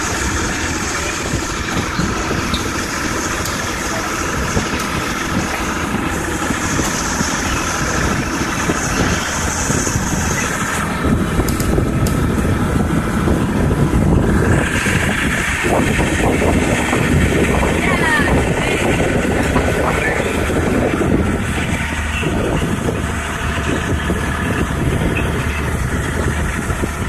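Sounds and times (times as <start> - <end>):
motorboat engine running: 0.0 - 27.0
rushing water: 0.0 - 27.0
wind: 0.0 - 27.0.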